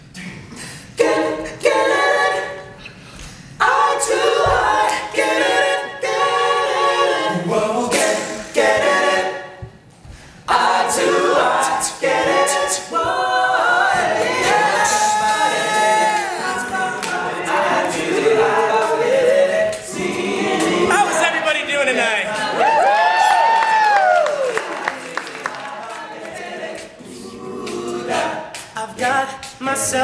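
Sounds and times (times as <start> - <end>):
male group singing in harmony: 0.5 - 2.8, 3.6 - 9.7, 10.4 - 22.7, 25.3 - 30.0.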